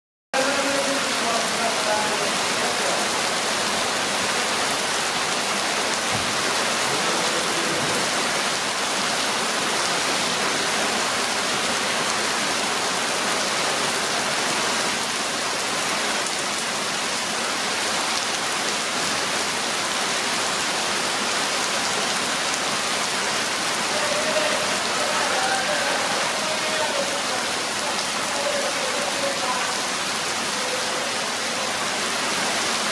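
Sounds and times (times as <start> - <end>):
rain falling on concrete: 0.4 - 32.9.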